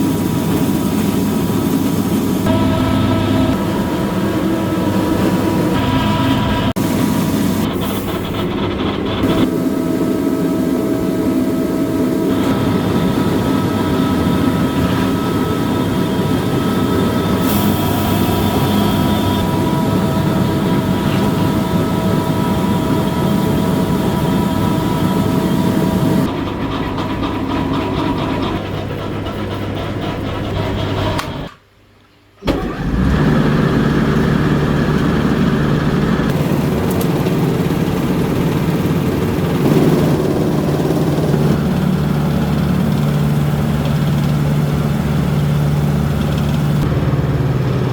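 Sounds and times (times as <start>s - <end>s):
machine motor hum: 0.0s - 31.5s, 32.5s - 47.9s
whining tones: 2.4s - 26.4s, 32.5s - 47.9s.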